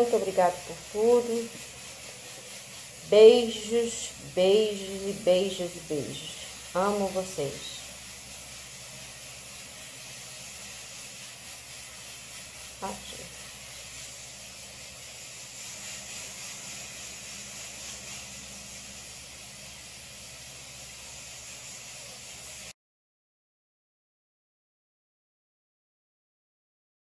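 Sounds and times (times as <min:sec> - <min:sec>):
steady hiss: 0:00.0 - 0:22.8.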